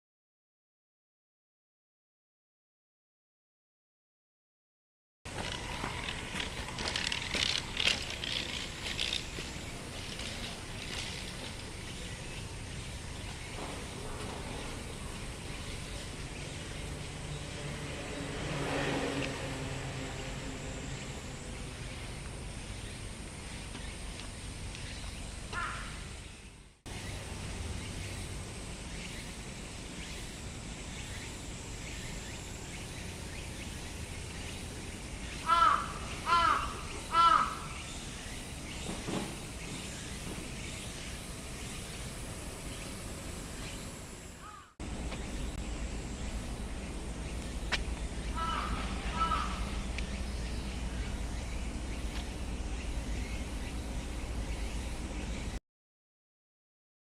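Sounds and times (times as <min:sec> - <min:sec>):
even outdoor hiss: 0:05.3 - 0:55.6
cicadas high steady tone: 0:05.4 - 0:55.6.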